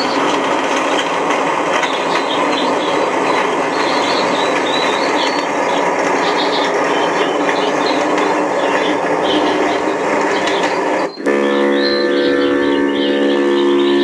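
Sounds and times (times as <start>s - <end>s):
ship engine drone: 0.0s - 14.0s.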